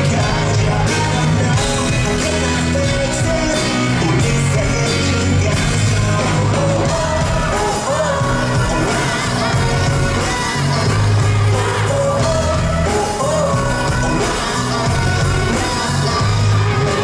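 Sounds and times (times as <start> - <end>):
live pop-rock music: 0.0 - 17.0.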